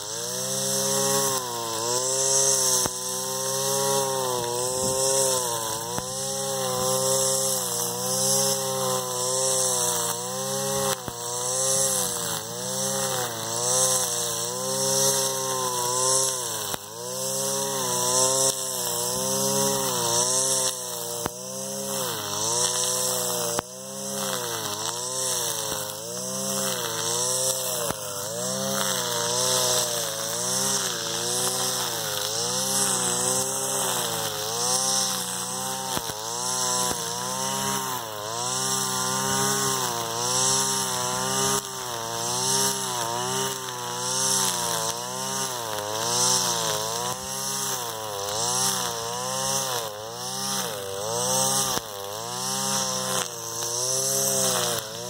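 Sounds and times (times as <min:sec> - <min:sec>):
hiss of line on grass: 0:00.0 - 0:49.8
brushcutter engine at high revs: 0:00.0 - 0:55.0.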